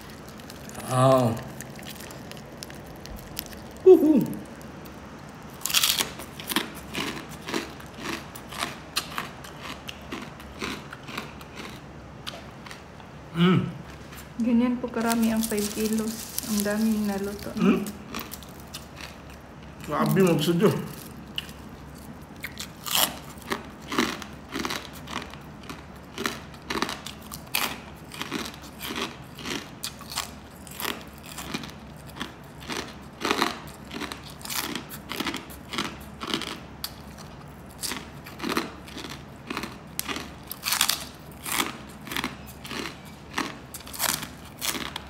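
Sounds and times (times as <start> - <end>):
person chewing crispy food: 0.0 - 13.0, 15.0 - 45.0.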